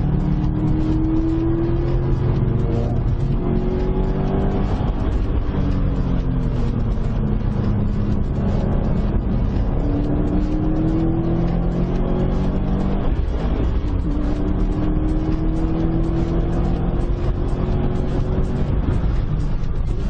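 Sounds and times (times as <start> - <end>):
car engine running hard: 0.0 - 20.0
road and wind noise: 0.0 - 20.0.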